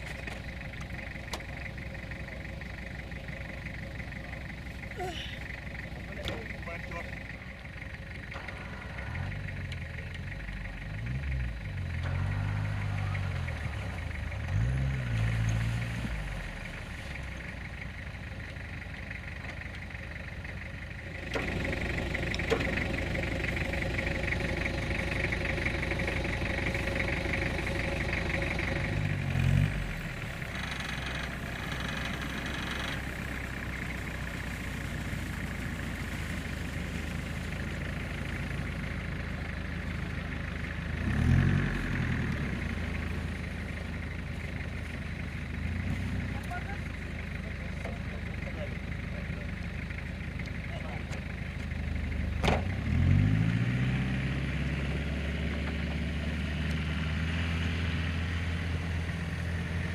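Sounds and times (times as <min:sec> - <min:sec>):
truck engines running: 0:00.0 - 0:59.9.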